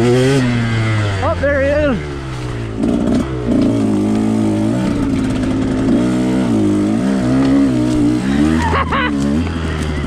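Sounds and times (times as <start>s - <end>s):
two-stroke motorcycle engine revving: 0.0s - 10.0s.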